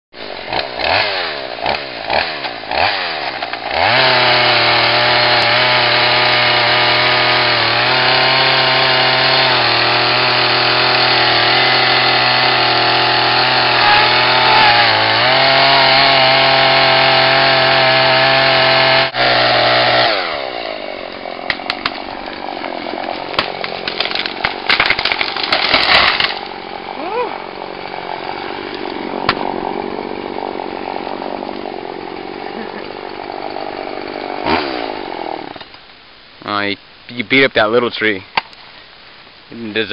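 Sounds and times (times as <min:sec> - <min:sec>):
chainsaw cutting wood: 0:00.2 - 0:35.8
tree cracking and snapping: 0:00.5 - 0:35.9.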